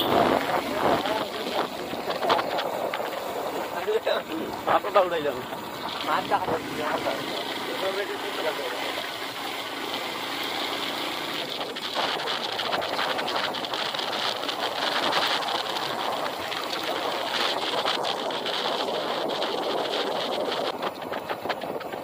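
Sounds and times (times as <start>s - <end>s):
wind rushing over microphone: 0.0s - 8.3s, 11.2s - 22.0s
road noise: 0.0s - 22.0s.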